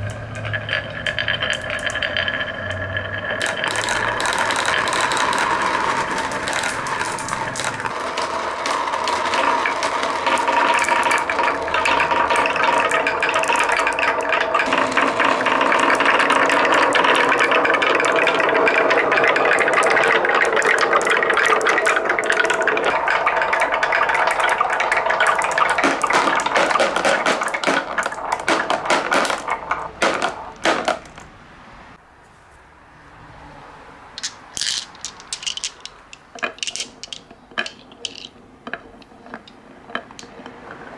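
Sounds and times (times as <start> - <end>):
marbles clattering down wooden run: 0.0 - 31.3, 34.2 - 40.9.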